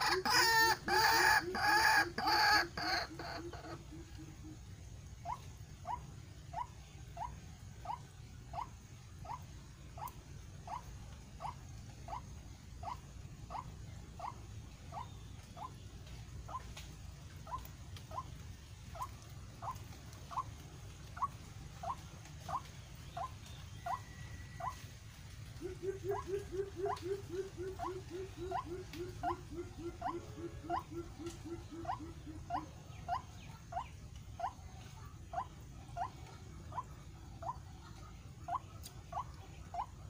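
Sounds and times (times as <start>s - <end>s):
low steady rumble: 0.0s - 40.0s
waterhen calling: 0.0s - 40.0s.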